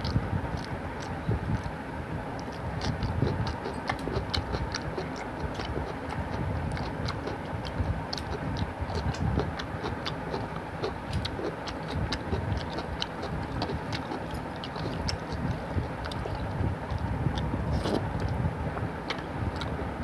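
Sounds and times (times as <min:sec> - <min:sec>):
wet chewing and eating by hand: 0:00.0 - 0:20.0.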